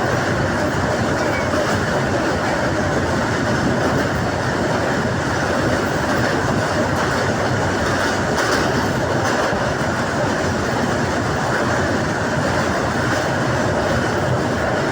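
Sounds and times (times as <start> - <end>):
clicking from rail joints: 0.0 - 14.9
train wheels rumbling on rails: 0.0 - 14.9.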